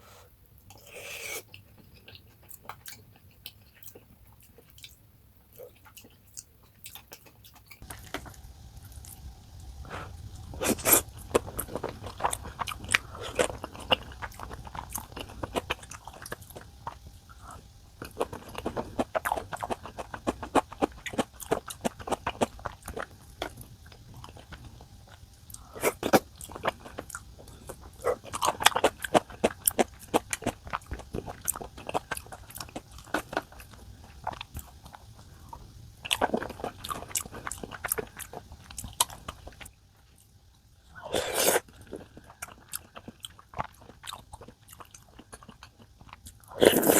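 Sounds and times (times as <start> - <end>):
person chewing and crunching: 0.7 - 8.3, 9.9 - 46.9.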